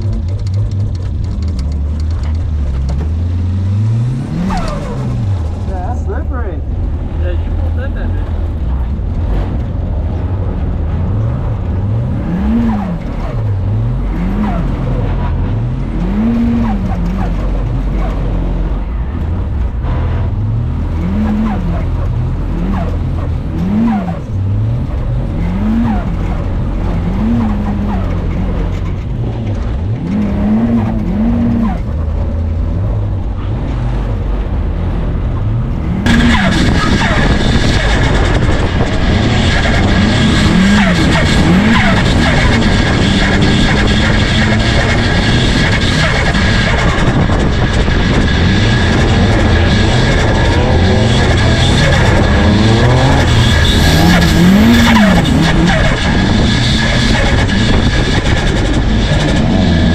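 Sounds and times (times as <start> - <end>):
car engine revving: 0.0 - 59.9
low engine rumble: 0.0 - 59.9.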